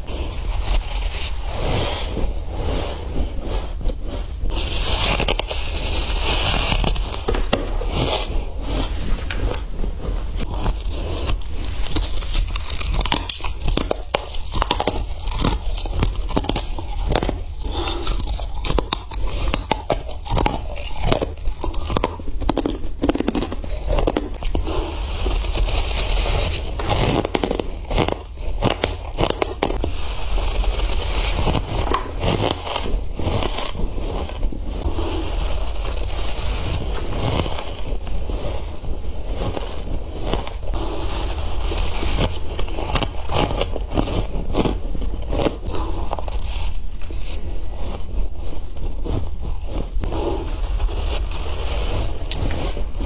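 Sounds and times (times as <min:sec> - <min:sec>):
crunching of freezer frost: 0:00.0 - 0:53.0.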